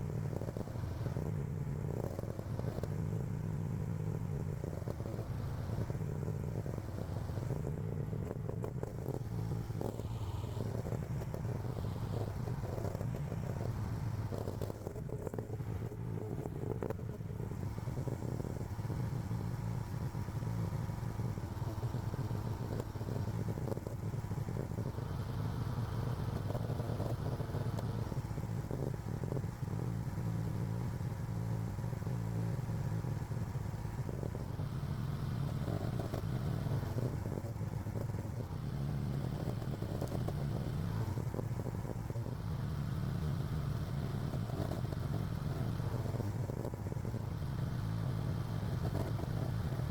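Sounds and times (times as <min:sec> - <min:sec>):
clatter: 0:00.0 - 0:49.9.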